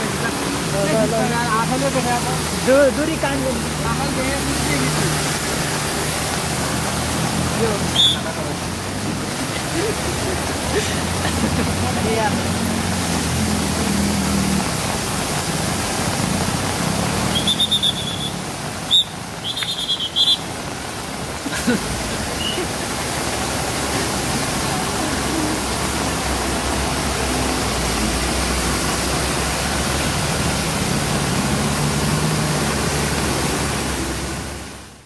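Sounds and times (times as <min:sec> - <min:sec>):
floodwater rushing: 0:00.0 - 0:35.0
truck engines running low: 0:00.0 - 0:35.0.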